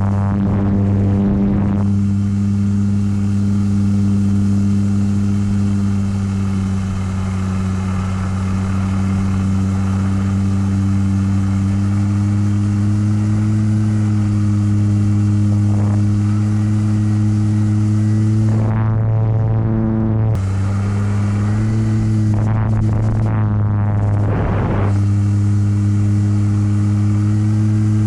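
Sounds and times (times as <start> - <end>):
model plane motor drone: 0.0 - 28.0.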